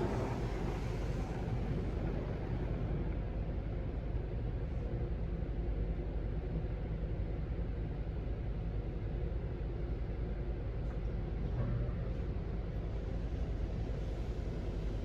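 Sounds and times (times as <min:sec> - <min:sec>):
car wash rumble and hiss: 0:00.0 - 0:15.0.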